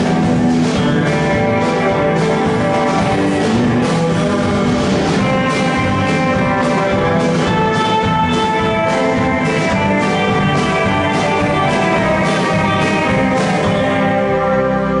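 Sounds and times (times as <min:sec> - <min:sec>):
drum hits: 0:00.0 - 0:14.4
rock band playing: 0:00.0 - 0:15.0.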